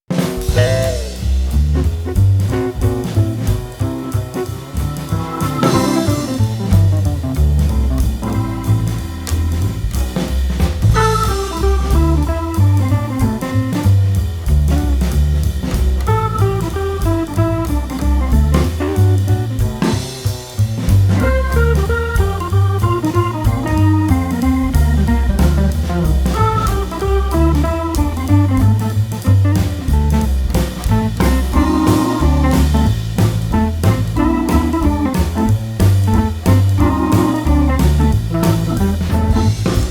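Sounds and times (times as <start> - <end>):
guitar bass and drum music: 0.0 - 39.9.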